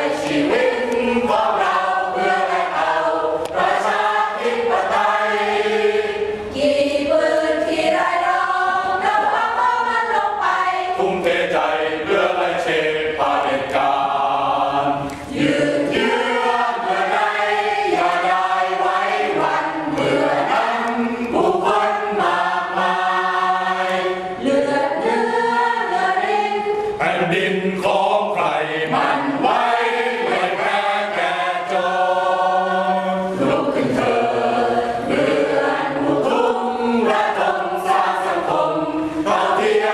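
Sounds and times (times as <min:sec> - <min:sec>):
mixed choir singing: 0:00.0 - 0:39.9.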